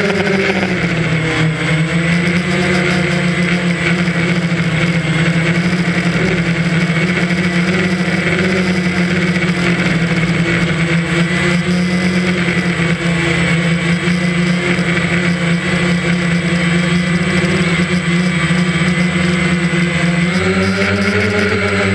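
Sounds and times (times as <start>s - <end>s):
drone motors buzzing: 0.0s - 21.9s.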